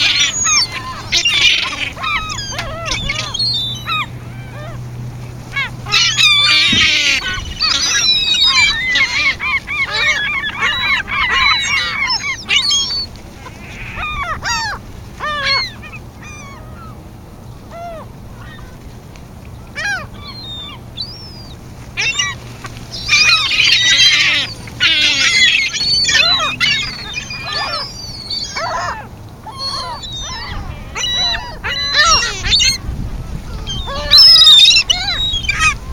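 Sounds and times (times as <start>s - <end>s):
flock of birds squawking: 0.0s - 35.9s.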